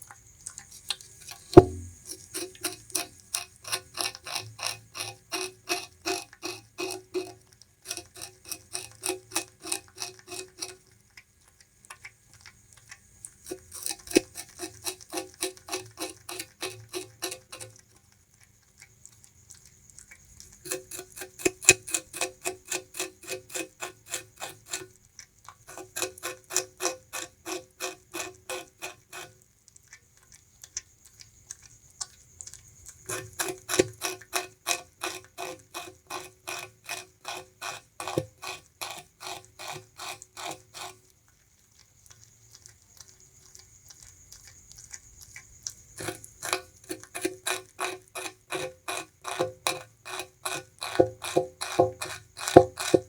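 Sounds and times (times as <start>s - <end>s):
rat chewing sugarcane: 0.0s - 53.0s.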